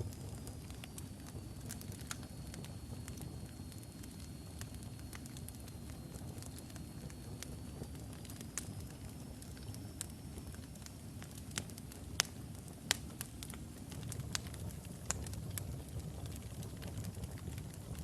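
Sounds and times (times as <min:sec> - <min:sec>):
wood fire crackling and popping: 0:00.0 - 0:18.0
flames rushing: 0:00.1 - 0:18.0.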